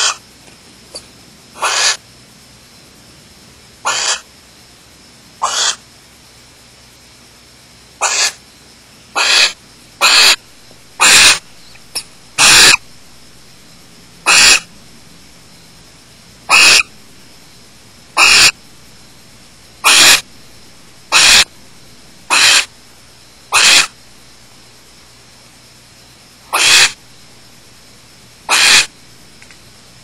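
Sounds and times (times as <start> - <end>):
barn owls hissing screech calls: 0.0 - 0.3, 0.9 - 2.0, 3.8 - 4.4, 5.4 - 5.9, 7.9 - 29.8.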